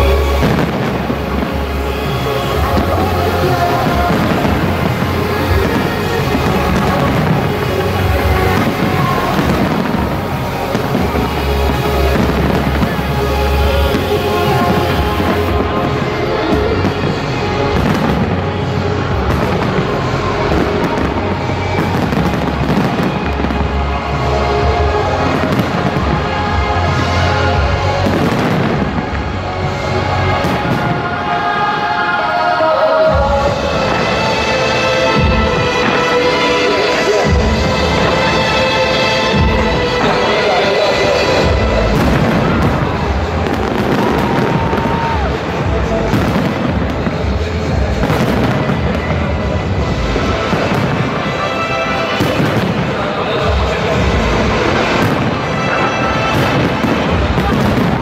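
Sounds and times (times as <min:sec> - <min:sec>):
fireworks booming and cracking: 0:00.0 - 0:32.4, 0:33.0 - 0:58.0
loud music: 0:00.0 - 0:58.0.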